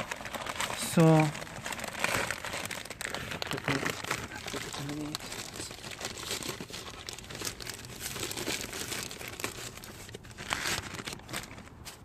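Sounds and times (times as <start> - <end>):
packaging crinkling and crackling: 0.0 - 12.0.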